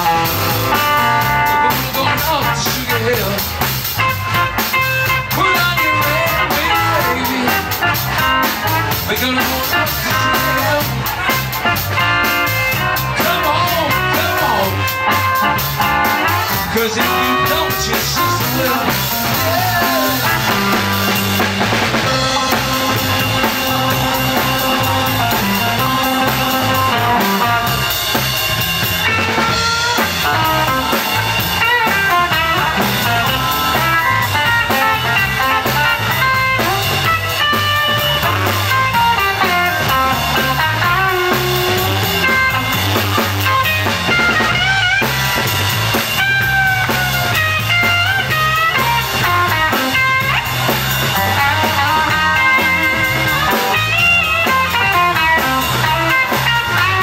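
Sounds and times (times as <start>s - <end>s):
electric guitar bent sliding notes: 0.0s - 57.0s
live blues band playing: 0.0s - 57.0s.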